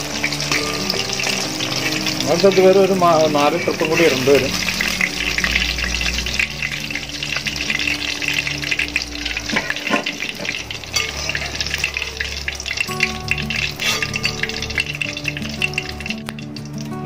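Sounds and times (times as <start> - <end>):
hot oil crackling and sizzling: 0.0 - 17.0
wire skimmer stirring oil: 0.0 - 17.0.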